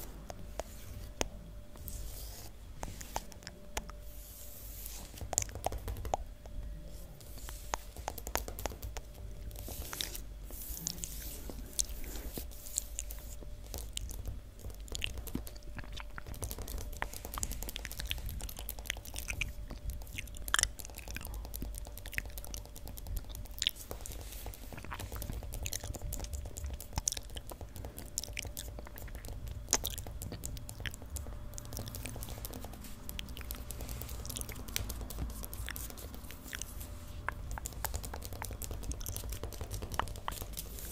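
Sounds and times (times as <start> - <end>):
steady low hum: 0.0 - 40.9
wet mouth clicks and smacks: 5.1 - 6.6, 7.6 - 10.2, 11.7 - 40.9.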